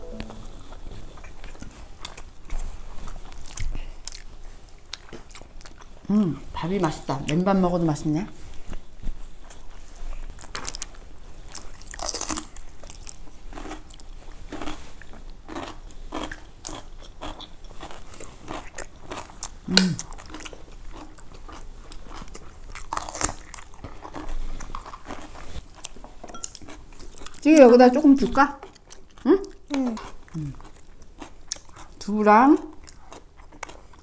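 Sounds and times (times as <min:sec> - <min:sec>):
crunchy chewing: 0:01.0 - 0:06.1, 0:09.4 - 0:27.4, 0:28.6 - 0:34.0.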